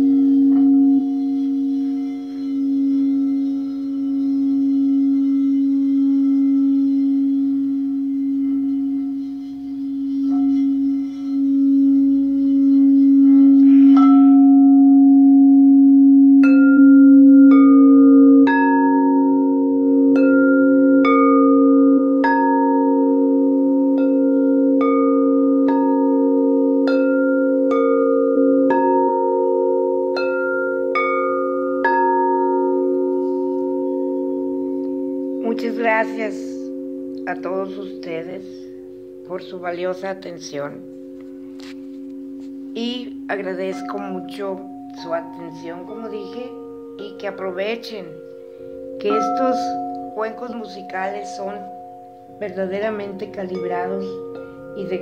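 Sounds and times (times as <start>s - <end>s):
singing bowl steady low hum: 0.0s - 55.0s
singing bowls struck: 0.0s - 55.0s.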